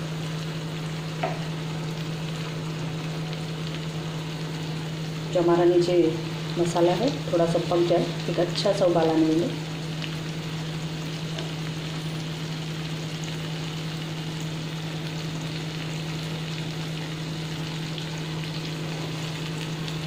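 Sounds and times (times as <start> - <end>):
gravy sizzling in a pan: 0.0 - 20.0.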